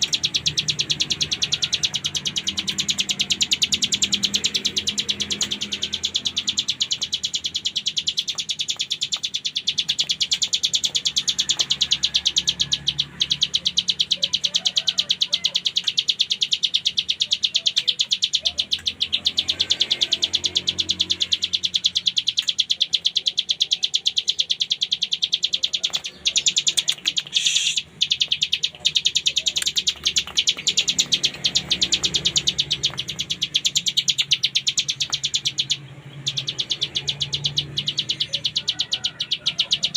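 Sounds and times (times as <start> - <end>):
bird singing fast drill-like notes: 0.0 - 39.9.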